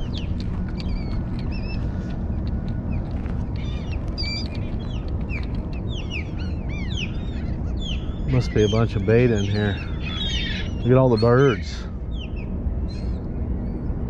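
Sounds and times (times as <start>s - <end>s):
low rumble: 0.0s - 14.0s
seabirds calling: 0.0s - 14.0s.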